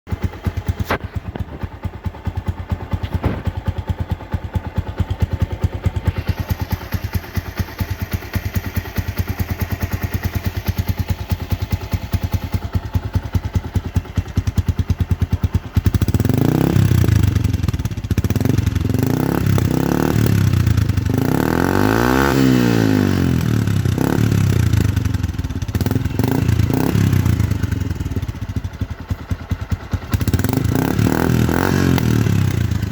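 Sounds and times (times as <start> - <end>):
motorcycle engine idling and revving: 0.0 - 32.9.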